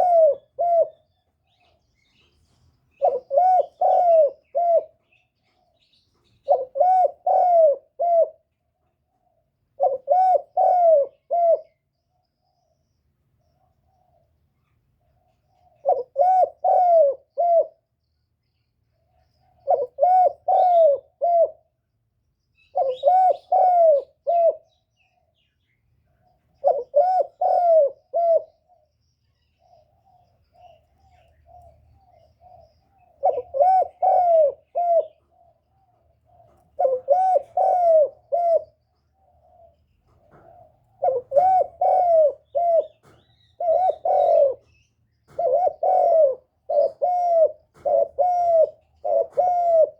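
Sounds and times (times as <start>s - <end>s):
dove cooing: 0.0s - 11.9s, 13.6s - 17.9s, 19.1s - 21.8s, 22.6s - 49.9s.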